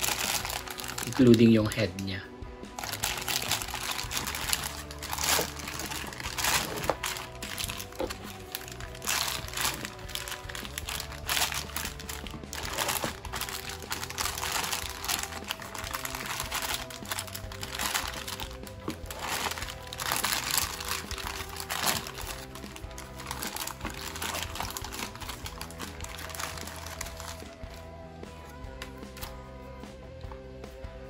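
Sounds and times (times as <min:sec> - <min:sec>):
plastic bags crinkling: 0:00.0 - 0:01.9, 0:02.8 - 0:27.8
background music: 0:00.0 - 0:31.0.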